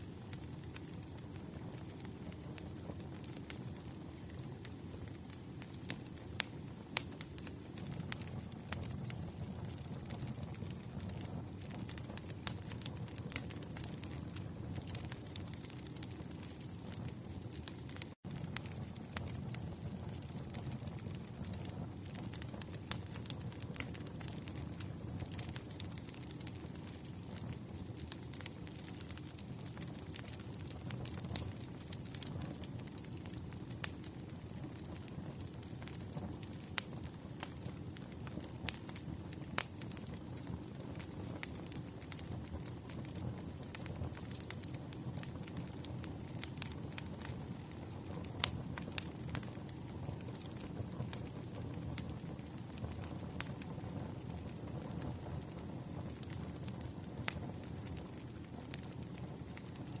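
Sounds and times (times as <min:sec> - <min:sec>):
wood fire crackling: 0:00.0 - 1:00.0.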